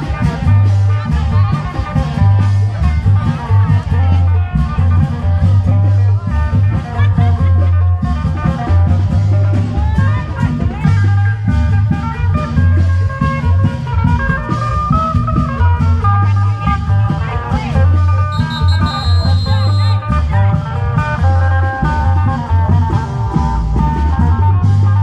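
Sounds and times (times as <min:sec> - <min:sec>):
heavy steady drum beat: 0:00.0 - 0:25.0.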